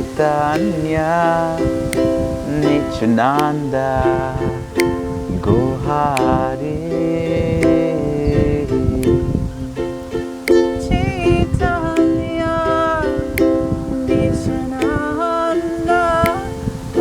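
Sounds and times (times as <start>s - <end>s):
person singing: 0.0s - 17.0s
ukulele strumming chords: 0.0s - 17.0s.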